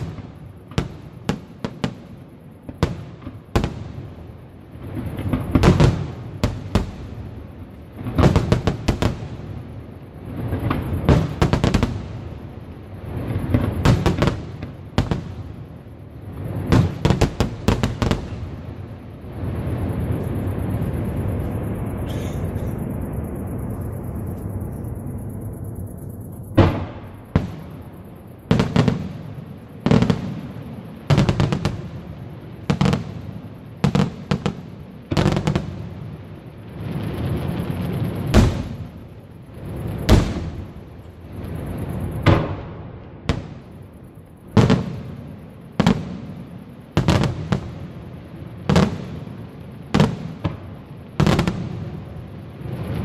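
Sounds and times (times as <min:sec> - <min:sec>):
firework crackling: 0:00.0 - 0:22.0, 0:25.2 - 0:53.0
rumbling hiss: 0:00.0 - 0:53.0.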